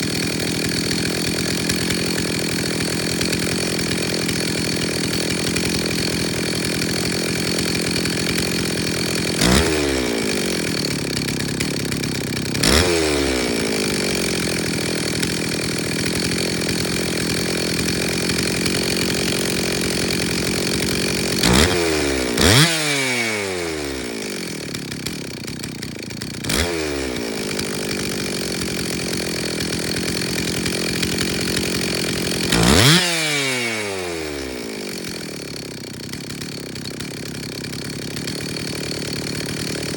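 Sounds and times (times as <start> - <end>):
chainsaw engine idling: 0.0 - 39.9
chainsaw throttle blips: 0.0 - 39.9.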